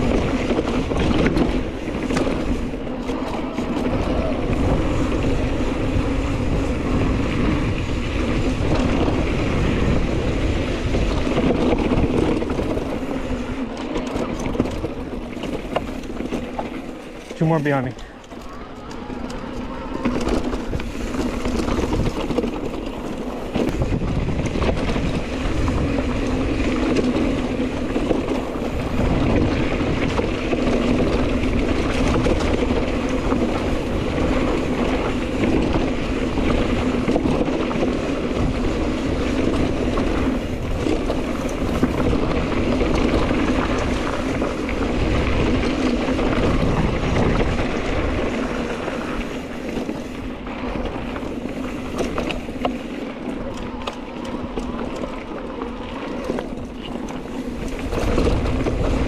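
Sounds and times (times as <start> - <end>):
tyres rumbling on dirt: 0.0 - 59.0
wind buffeting microphone: 0.0 - 59.0.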